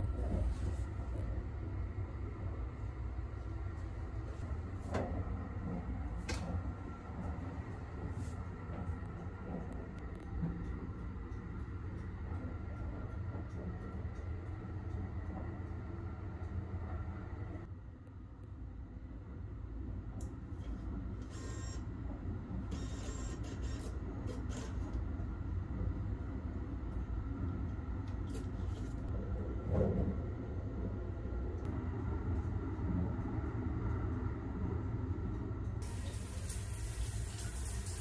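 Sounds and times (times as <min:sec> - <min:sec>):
train low rumble: 0:00.0 - 0:38.0.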